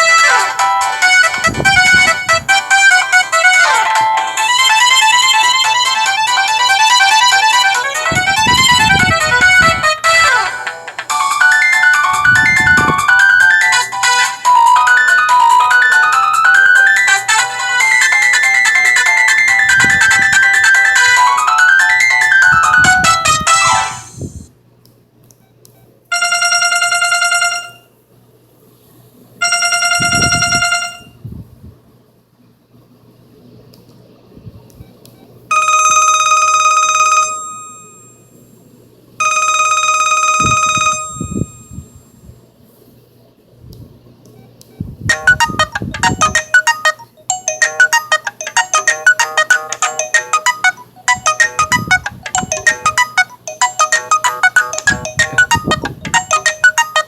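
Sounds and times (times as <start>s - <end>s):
phone ringtone ringing: 0.0s - 24.5s, 26.1s - 27.9s, 29.4s - 31.2s, 35.5s - 38.5s, 39.2s - 42.2s, 45.1s - 57.0s.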